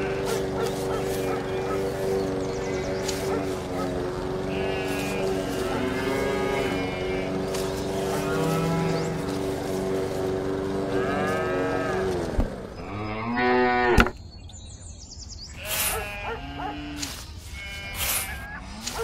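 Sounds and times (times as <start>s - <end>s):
cattle mooing: 0.0s - 9.9s, 10.8s - 14.1s, 15.6s - 19.0s.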